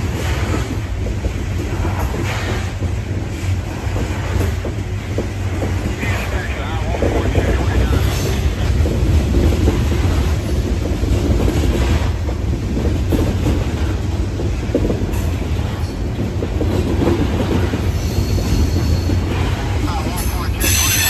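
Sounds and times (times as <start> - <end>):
steel wheels rumbling on rail: 0.0 - 21.0.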